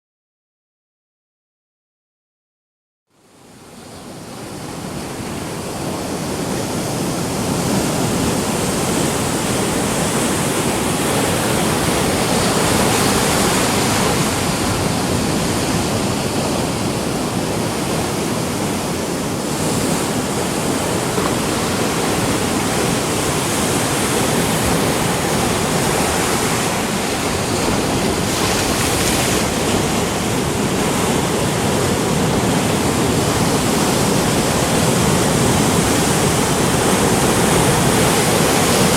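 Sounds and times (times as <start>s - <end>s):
waves breaking: 3.4s - 38.9s.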